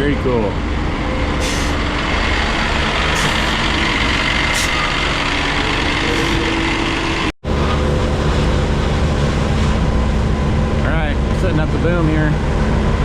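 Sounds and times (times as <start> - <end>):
heavy truck engine running: 0.0 - 13.0.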